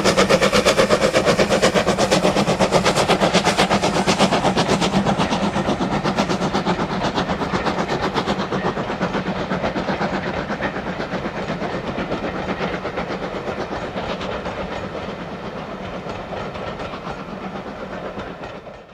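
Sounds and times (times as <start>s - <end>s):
train wheels clattering over rail joints: 0.0s - 18.9s.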